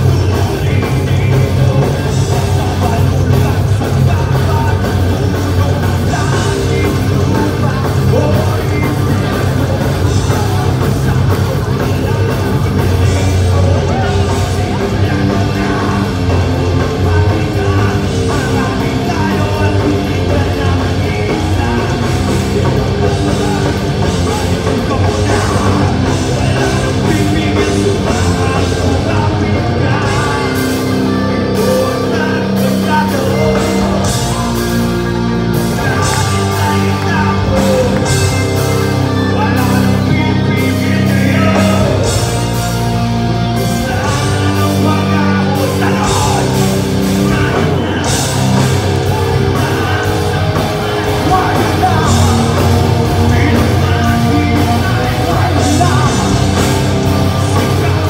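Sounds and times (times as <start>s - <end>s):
person singing: 0.0s - 58.0s
rock band playing live: 0.0s - 58.0s.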